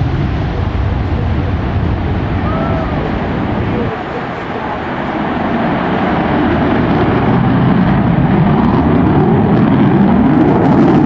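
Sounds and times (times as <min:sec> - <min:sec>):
fighter jet engines rushing: 0:00.0 - 0:11.0.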